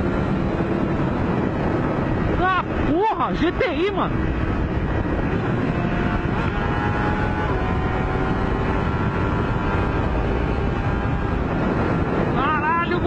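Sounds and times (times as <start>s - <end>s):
motorcycle engine: 0.0s - 13.0s
wind rush on microphone: 0.0s - 13.0s.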